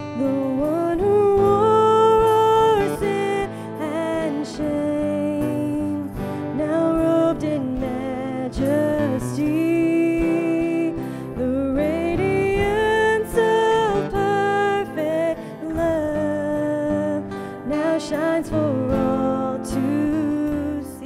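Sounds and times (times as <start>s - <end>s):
acoustic guitar: 0.0s - 21.0s
keyboard: 0.0s - 21.0s.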